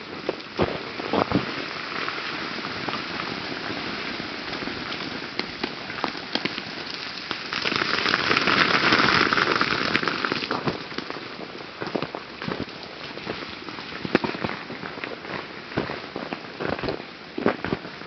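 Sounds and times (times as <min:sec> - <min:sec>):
ice falling from tree branches: 0:00.6 - 0:17.8.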